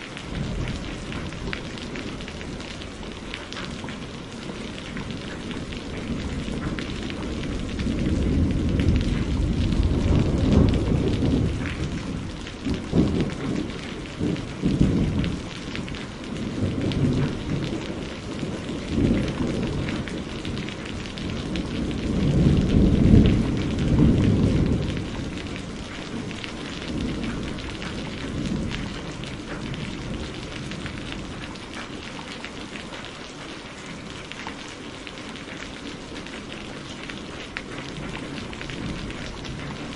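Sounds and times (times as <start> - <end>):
rolling thunder: 0.0 - 31.8, 37.6 - 39.9
steady rain: 0.0 - 39.9.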